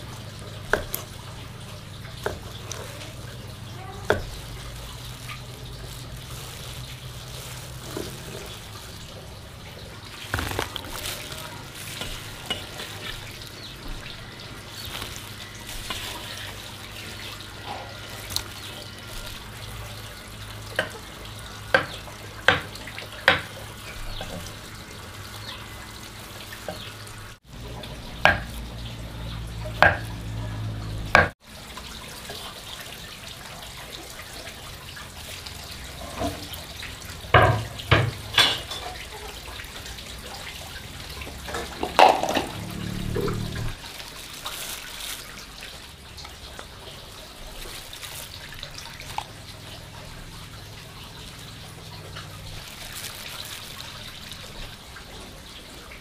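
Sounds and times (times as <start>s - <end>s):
tap water running into sink: 0.0s - 56.0s.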